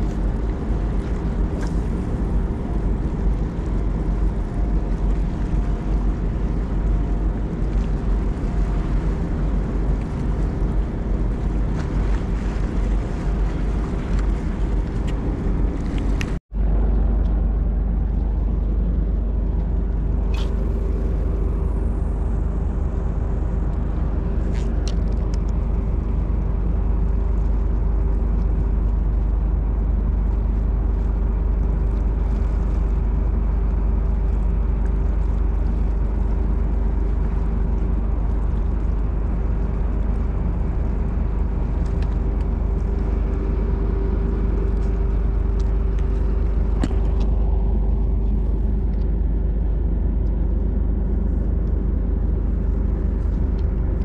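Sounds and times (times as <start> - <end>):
ship engine drone: 0.0 - 54.0
wind rumbling on microphone: 0.0 - 54.0.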